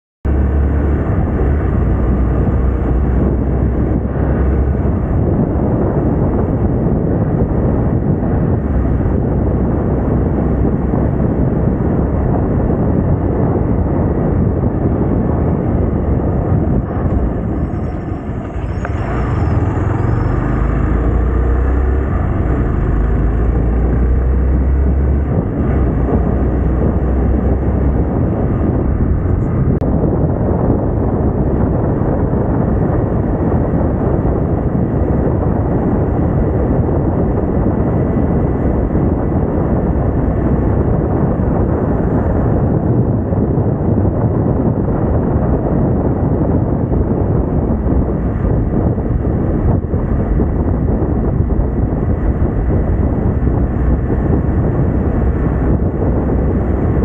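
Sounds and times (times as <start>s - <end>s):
motorcycle engine running: 0.2s - 57.0s
wind rush on microphone: 0.2s - 57.0s.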